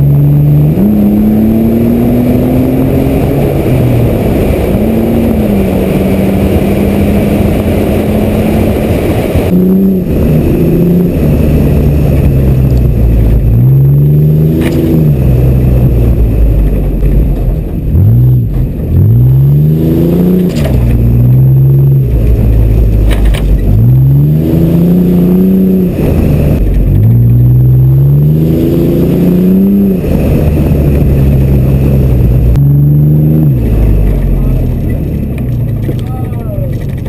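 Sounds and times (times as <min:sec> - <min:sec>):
car engine revving: 0:00.0 - 0:37.0
low driving rumble: 0:00.0 - 0:37.0.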